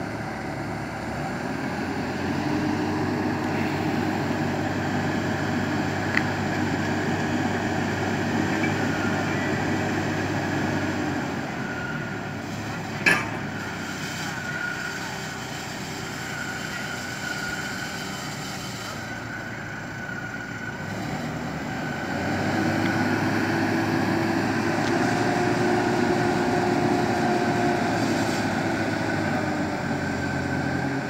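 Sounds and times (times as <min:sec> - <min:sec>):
diesel engine whining: 0:00.0 - 0:31.0
hydraulic whine: 0:00.0 - 0:31.0.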